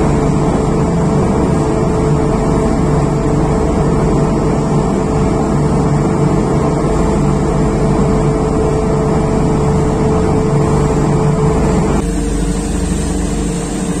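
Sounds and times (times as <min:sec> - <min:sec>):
ship engines droning: 0:00.0 - 0:14.0.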